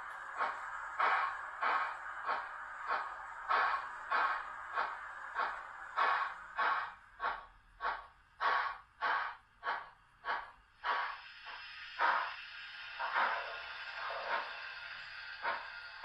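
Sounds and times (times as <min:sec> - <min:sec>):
model locomotive exhaust chuffs: 0:00.0 - 0:16.0
steam hiss: 0:00.0 - 0:16.0.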